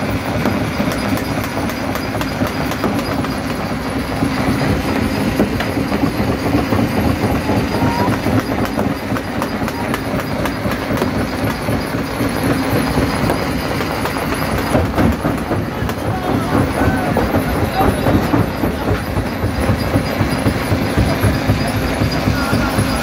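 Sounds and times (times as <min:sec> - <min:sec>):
jaw crusher droning: 0:00.0 - 0:23.0.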